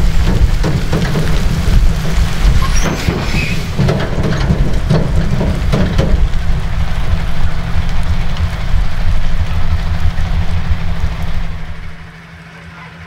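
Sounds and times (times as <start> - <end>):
scattered knocks: 0.0 - 12.2
truck diesel engine rumbling: 0.0 - 12.3.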